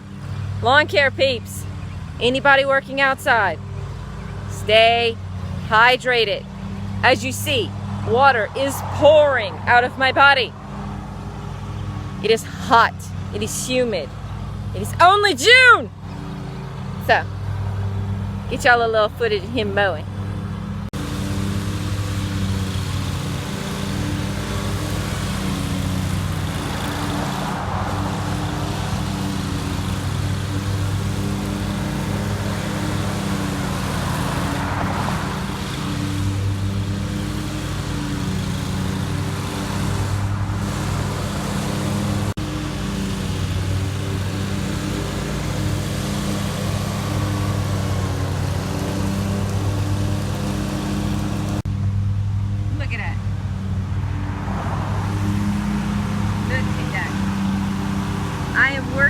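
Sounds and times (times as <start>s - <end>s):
riding lawn mower engine: 0.0s - 59.0s.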